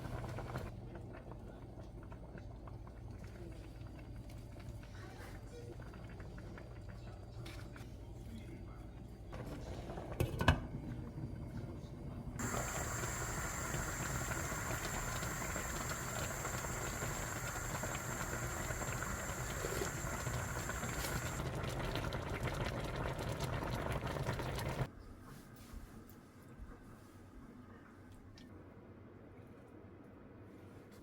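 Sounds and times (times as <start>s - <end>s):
pot of stew boiling: 0.0s - 24.9s.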